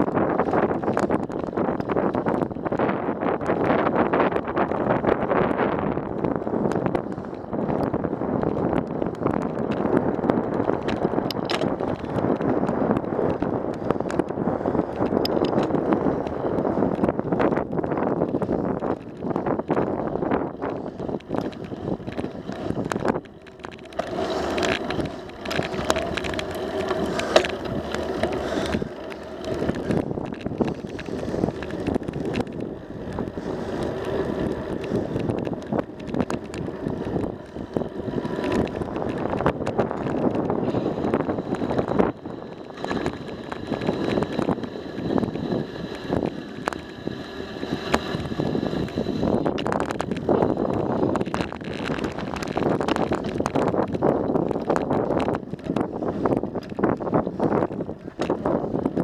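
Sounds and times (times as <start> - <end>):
bicycle tyre noise on asphalt: 0.0 - 59.0
bike clicks and rattles: 0.0 - 59.0
wind on microphone: 0.0 - 59.0.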